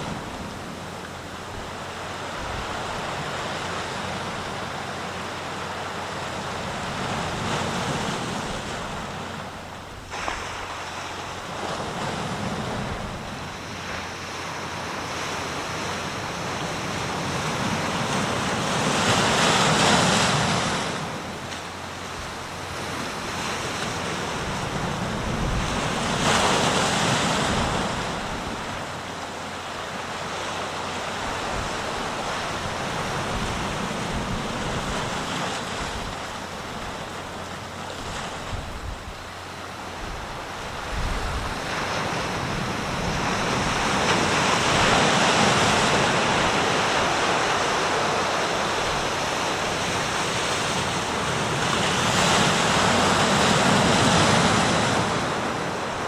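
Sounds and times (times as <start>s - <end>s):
big waves crashing: 0.0s - 56.0s
sea waves washing ashore: 0.0s - 56.0s.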